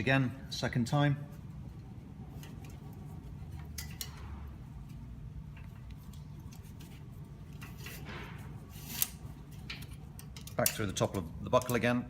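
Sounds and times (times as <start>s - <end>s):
steel band scraping and clicking: 1.8s - 11.9s.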